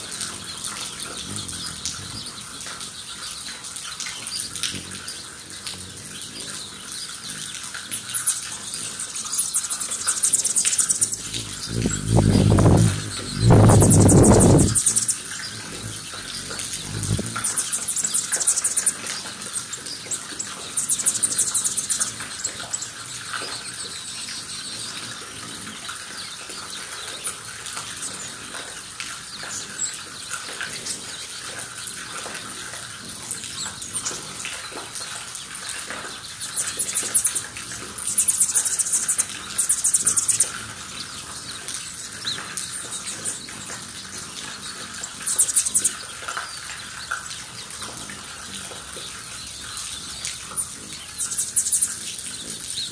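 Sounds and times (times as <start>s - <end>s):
hummingbirds buzzing chatter: 0.0s - 52.9s
light drizzle hiss: 0.0s - 52.9s.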